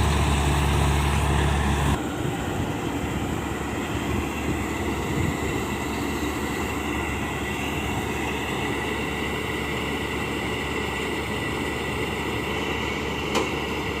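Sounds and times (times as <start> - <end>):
farm machinery engine rumble: 0.0 - 14.0
high machine whine: 0.0 - 14.0.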